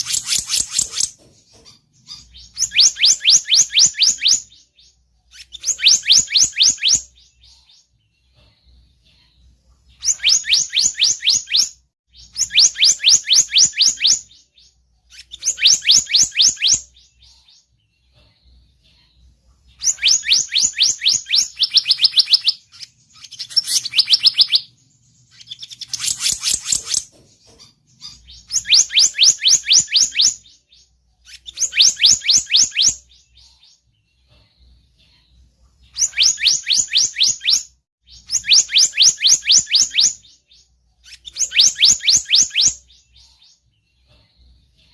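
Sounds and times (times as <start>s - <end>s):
songbird rapid high chirps: 0.0s - 44.5s.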